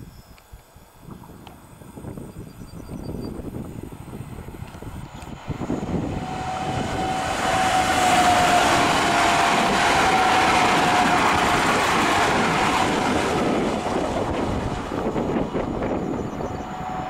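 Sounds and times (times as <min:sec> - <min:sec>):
train wheel and rail noise: 0:00.4 - 0:17.0
train whine: 0:00.4 - 0:17.0.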